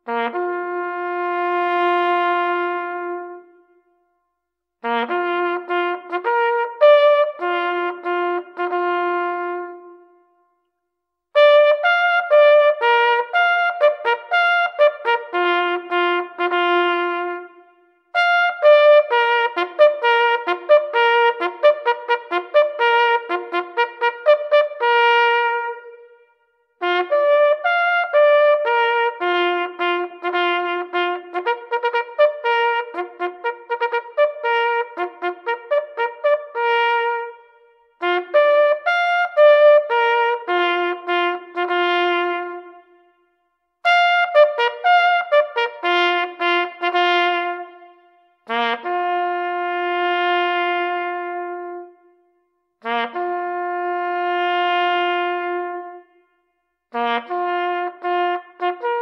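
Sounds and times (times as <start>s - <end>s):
solo trumpet melody: 0.0s - 4.0s, 4.8s - 10.4s, 11.3s - 59.0s.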